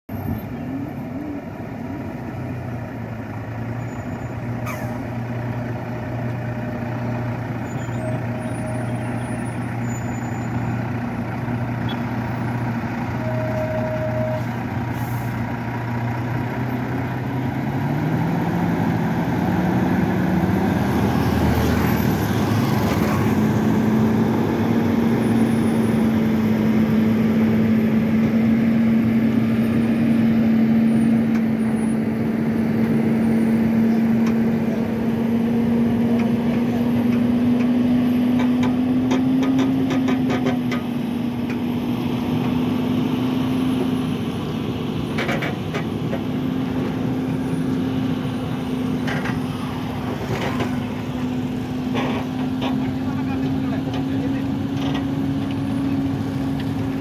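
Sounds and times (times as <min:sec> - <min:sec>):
truck diesel engine revving: 0:00.2 - 0:57.0.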